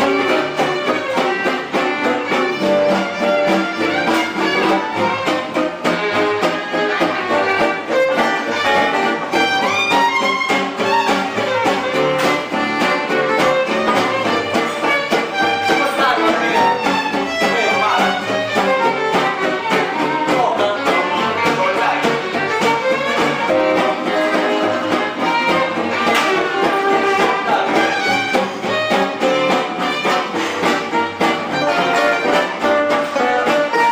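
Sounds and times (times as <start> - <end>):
guitar accompaniment: 0.0 - 33.9
violin melody: 0.0 - 33.9.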